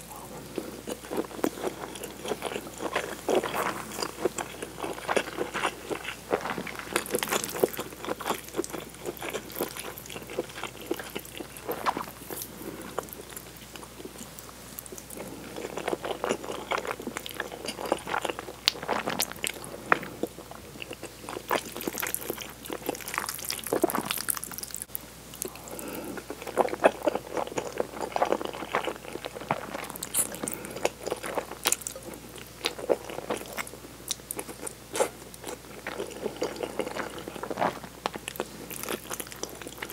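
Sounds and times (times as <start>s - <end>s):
wet slurping and chewing: 0.4s - 39.9s.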